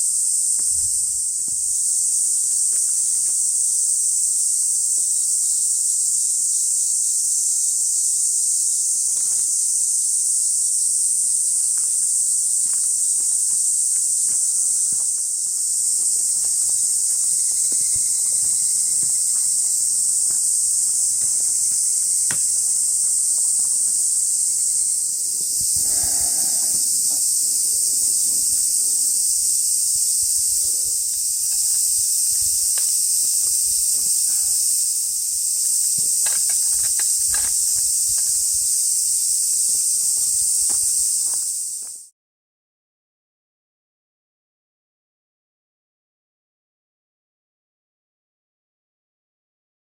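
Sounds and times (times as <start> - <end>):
high-pitched insect chorus: 0.0 - 42.1.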